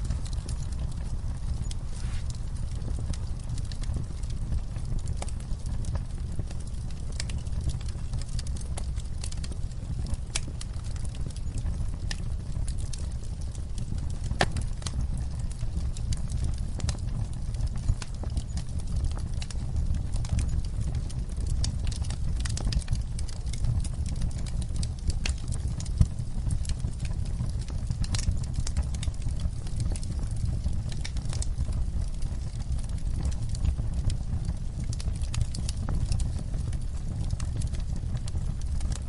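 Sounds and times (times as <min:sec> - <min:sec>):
low rumble of flames: 0:00.0 - 0:39.0
wood crackling and popping: 0:00.0 - 0:39.0.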